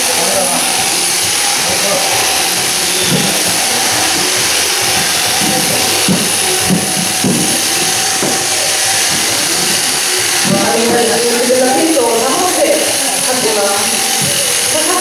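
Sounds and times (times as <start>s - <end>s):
sheep-shearing handpieces buzzing: 0.0s - 15.0s.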